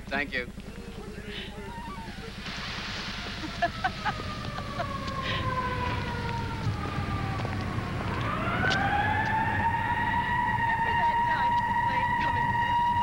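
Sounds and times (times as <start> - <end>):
low traffic rumble: 0.0 - 13.0
emergency siren wailing: 0.7 - 13.0.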